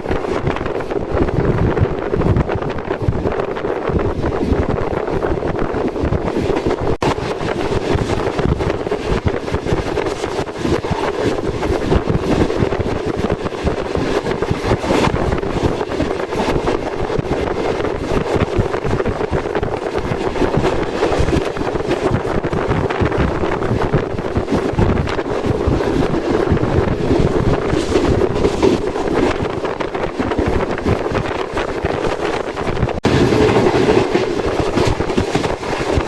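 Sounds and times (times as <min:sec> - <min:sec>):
passenger train running: 0:00.0 - 0:36.0
wind buffeting microphone: 0:00.0 - 0:36.0.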